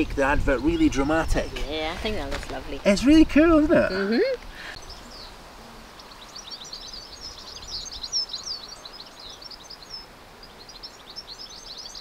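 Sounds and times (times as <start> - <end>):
faint outdoor background noise: 0.0 - 12.0
small birds chirping: 0.0 - 12.0.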